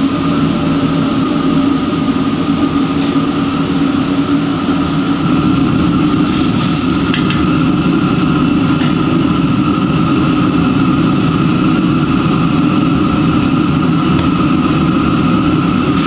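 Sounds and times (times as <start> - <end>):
loud mechanical drone: 0.0 - 16.0
thin whine: 0.0 - 16.0.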